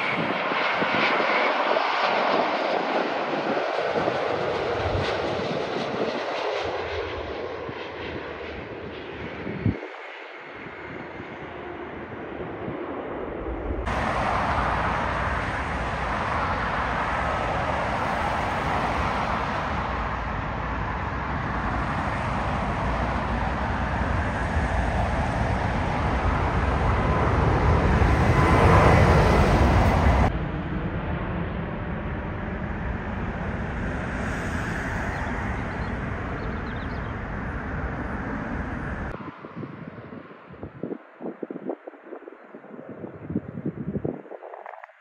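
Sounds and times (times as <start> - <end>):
faint jet noise on runway: 0.0 - 45.0
jet engines at take-off thrust: 0.0 - 45.0.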